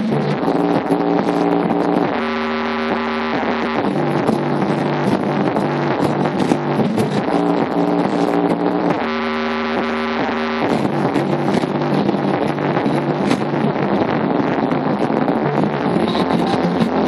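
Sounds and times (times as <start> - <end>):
drum and bass music through subwoofer: 0.0 - 17.0.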